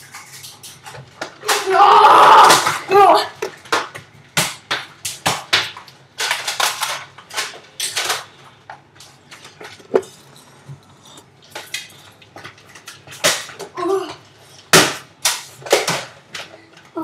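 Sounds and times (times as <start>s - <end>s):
hard objects clicking and clattering: 0.0s - 17.0s.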